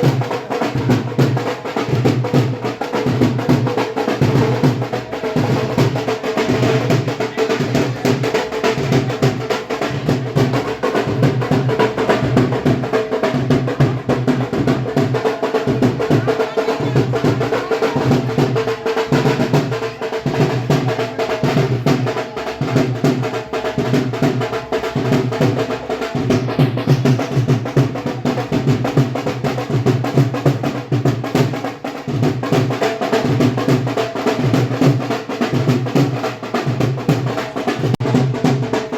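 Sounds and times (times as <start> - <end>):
drum-led music: 0.0 - 38.9.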